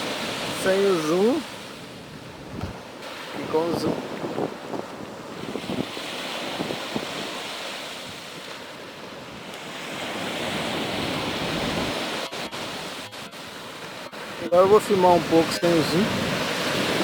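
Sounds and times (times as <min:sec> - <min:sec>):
sea waves washing on beach: 0:00.0 - 0:17.0
wind buffeting microphone: 0:00.0 - 0:17.0.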